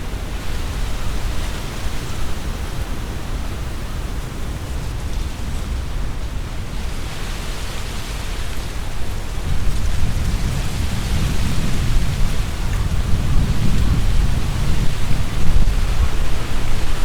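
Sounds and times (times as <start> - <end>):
low rumble of wind: 0.0 - 17.0
tree leaves rustling: 0.0 - 17.0.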